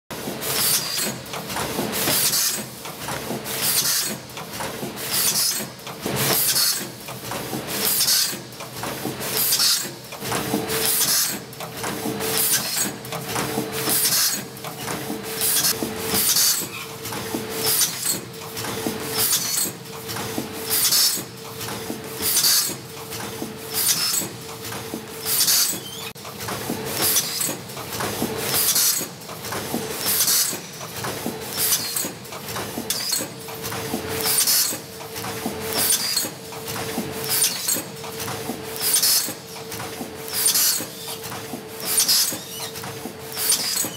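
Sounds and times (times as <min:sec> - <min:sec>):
packing machine running: 0:00.1 - 0:43.9
mechanical clatter: 0:00.2 - 0:43.9.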